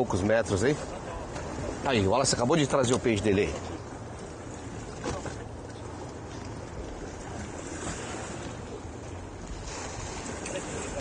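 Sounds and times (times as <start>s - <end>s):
waves washing against boat: 0.0s - 11.0s.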